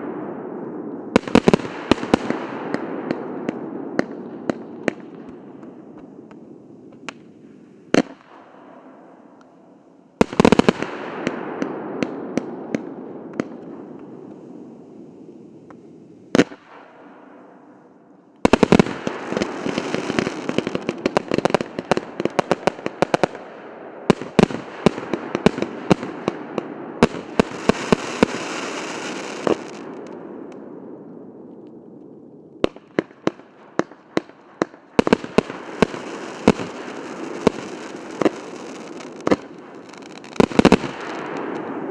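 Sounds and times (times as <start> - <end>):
fireworks shots and bursts: 0.0 - 41.9.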